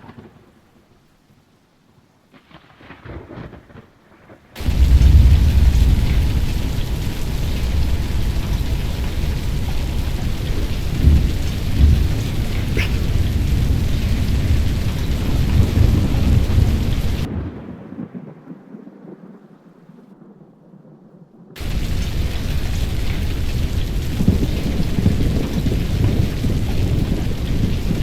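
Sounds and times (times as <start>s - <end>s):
heavy rain: 2.4s - 19.8s, 21.6s - 28.0s
thunder rumbling: 4.6s - 28.0s.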